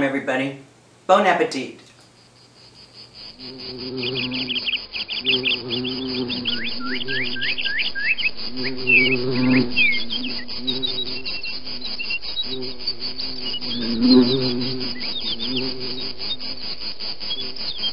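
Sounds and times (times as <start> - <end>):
birds chirping: 1.1 - 17.9
low hum: 2.7 - 17.9.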